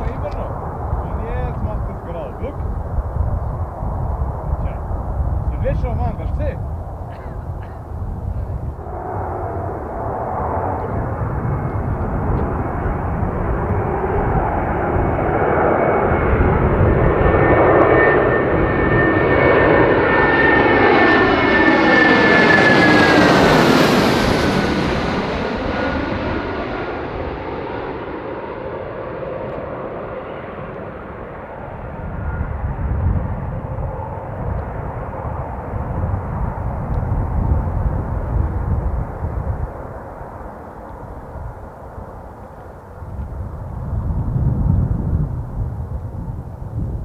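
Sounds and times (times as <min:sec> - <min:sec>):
jet airliner passing overhead: 0:00.0 - 0:47.0.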